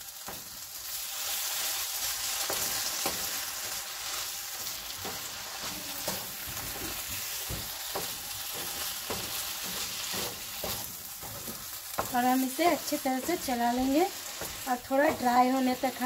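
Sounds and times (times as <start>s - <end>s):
food sizzling in a frying pan: 0.0s - 16.0s
utensil scraping and tapping pan: 2.2s - 16.0s.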